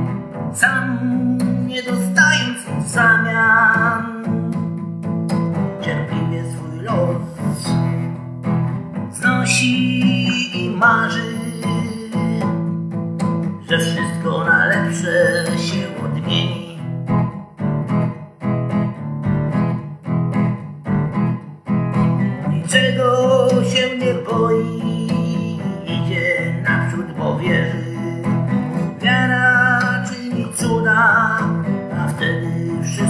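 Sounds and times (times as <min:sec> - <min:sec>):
blues guitar: 0:00.0 - 0:33.0.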